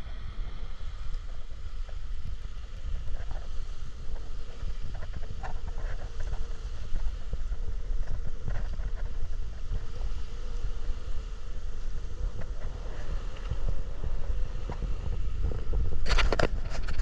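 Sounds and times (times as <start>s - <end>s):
faint steady hum: 0.0s - 17.0s
wind buffeting microphone: 0.0s - 17.0s.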